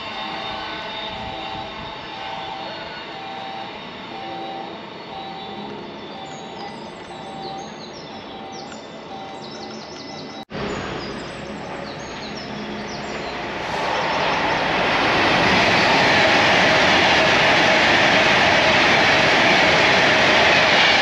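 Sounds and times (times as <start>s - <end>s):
train passing rushing noise: 0.0s - 21.0s.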